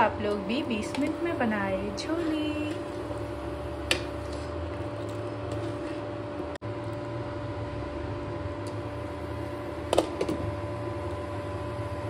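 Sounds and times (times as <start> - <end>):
induction cooktop hum: 0.0 - 12.0.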